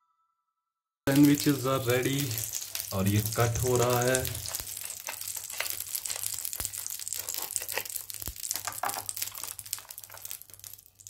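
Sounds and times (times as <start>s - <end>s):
knife crunching through toast: 1.1s - 11.0s.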